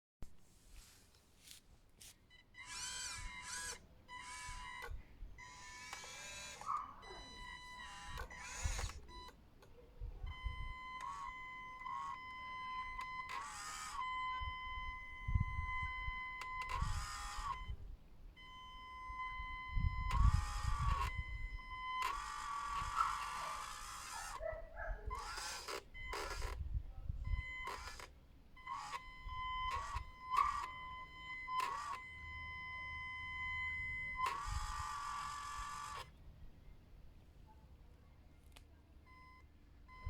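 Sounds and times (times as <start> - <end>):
small electric motors whirring: 2.5 - 36.2.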